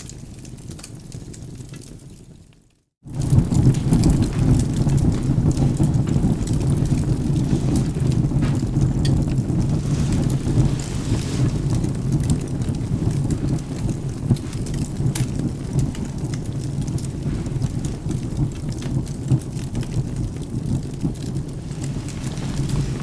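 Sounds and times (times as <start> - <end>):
rain: 0.0 - 23.0
wood fire crackling: 0.0 - 23.0
thunder: 3.1 - 23.0.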